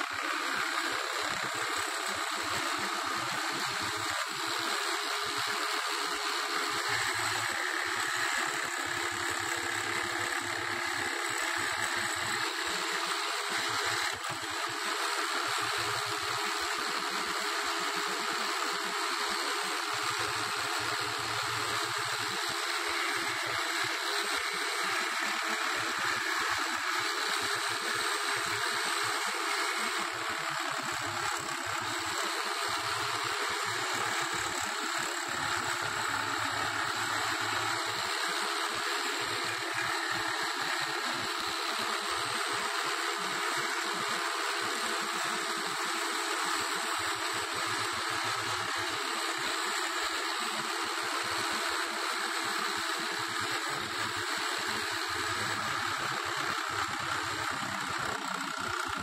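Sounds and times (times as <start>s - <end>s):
jigsaw sawing wood: 0.0s - 59.0s.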